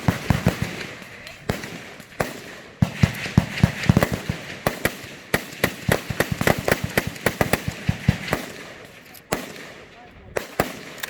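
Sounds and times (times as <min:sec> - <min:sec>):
rapid gunfire: 0:00.0 - 0:11.0.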